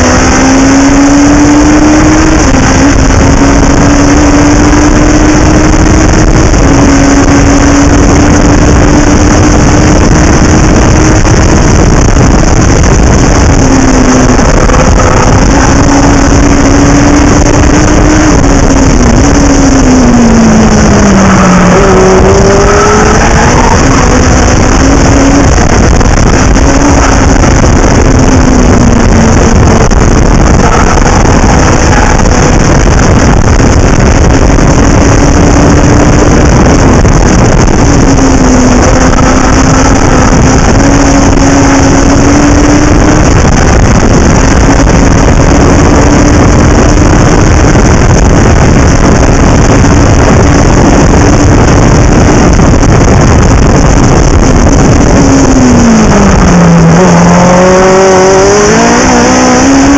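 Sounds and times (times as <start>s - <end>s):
race car engine running hard: 0.0s - 59.9s
road noise: 0.0s - 59.9s
rushing wind: 0.0s - 59.9s.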